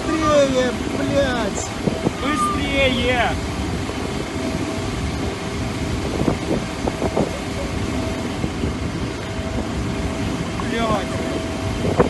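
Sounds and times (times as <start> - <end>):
mechanical rumble with hum: 0.0 - 12.0.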